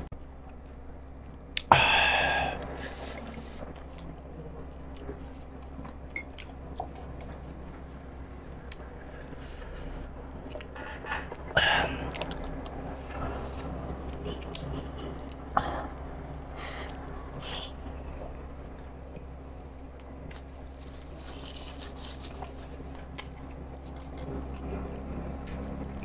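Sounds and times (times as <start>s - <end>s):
wet chewing sounds: 3.0s - 16.1s, 16.8s - 26.0s.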